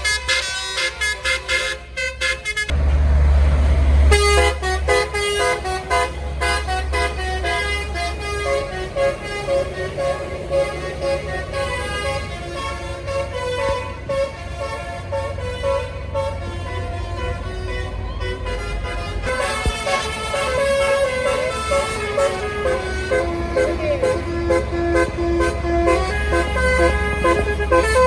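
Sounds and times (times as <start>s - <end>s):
melodic bus horn tune: 0.0s - 2.8s, 4.0s - 28.0s
bus engine rumbling: 0.0s - 28.0s.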